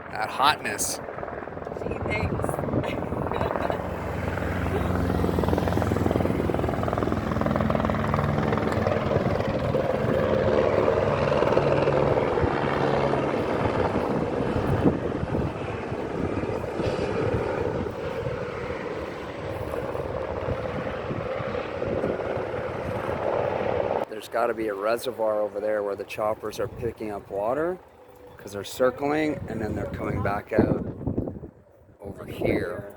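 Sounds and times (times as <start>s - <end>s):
helicopter flying over: 0.0s - 32.9s.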